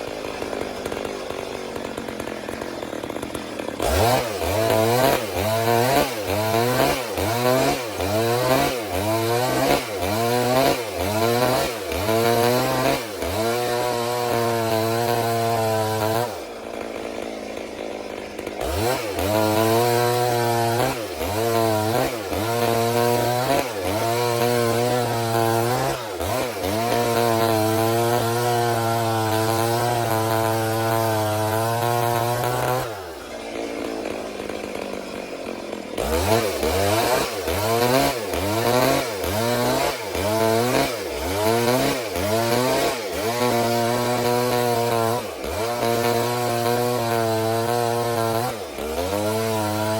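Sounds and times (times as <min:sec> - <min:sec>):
chainsaw cutting log: 0:00.0 - 0:49.9.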